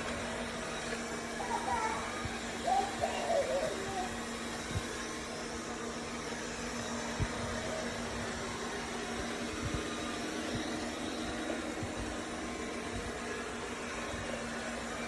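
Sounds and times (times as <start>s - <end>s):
robot vacuum motor hum: 0.0s - 15.0s.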